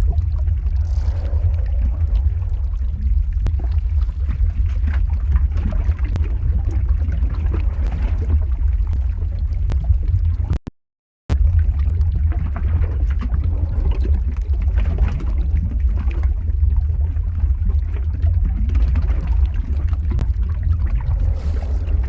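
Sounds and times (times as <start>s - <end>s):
lava deep rumble: 0.0s - 10.6s, 11.3s - 22.0s
crackles and pops: 0.0s - 10.7s, 11.3s - 22.0s.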